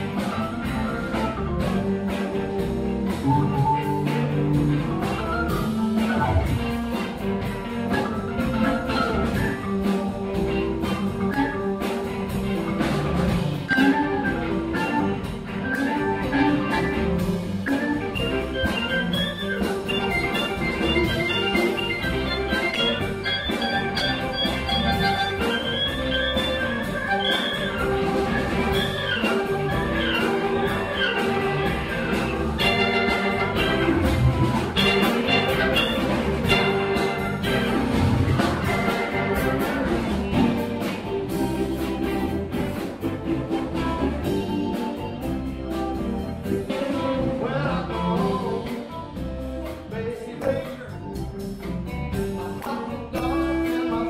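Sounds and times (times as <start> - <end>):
high lead melody line: 0.0 - 48.9
live band playing latin rock: 0.0 - 54.0.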